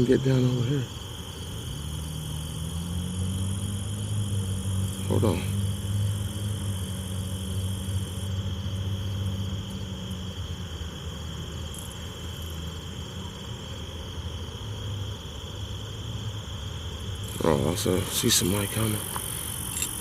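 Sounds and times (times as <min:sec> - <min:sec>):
low steady rumble: 0:00.0 - 0:20.0
night insects chirring: 0:00.0 - 0:20.0.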